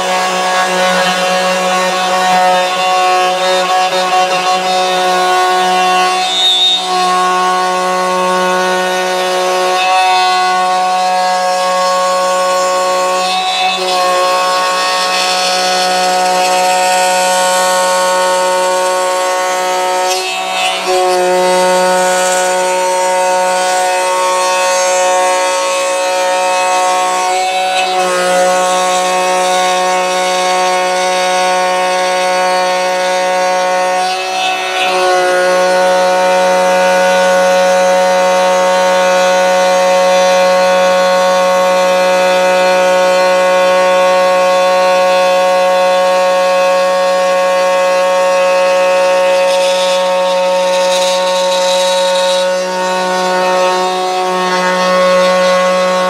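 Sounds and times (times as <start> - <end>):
router motor running: 0.0 - 56.0.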